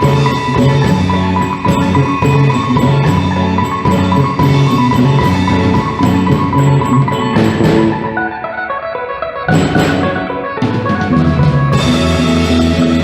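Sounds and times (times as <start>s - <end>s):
mallet percussion melody: 0.0s - 8.4s, 9.5s - 13.0s
drums: 0.0s - 8.8s, 9.4s - 13.0s.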